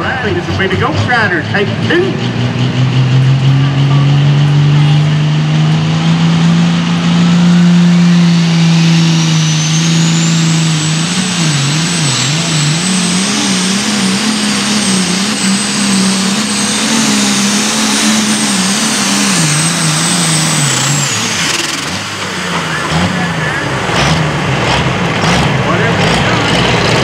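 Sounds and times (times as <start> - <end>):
turbo whine: 0.0 - 24.0
tractor diesel engine at full power: 0.0 - 27.0.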